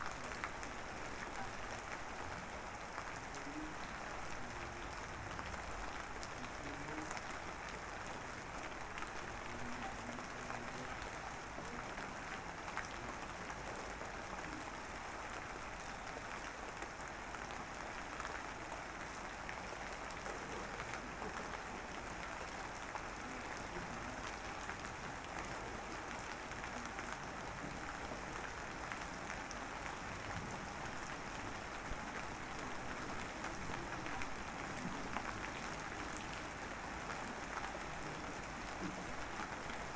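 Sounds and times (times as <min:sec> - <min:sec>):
light drizzle patter: 0:00.0 - 0:39.9.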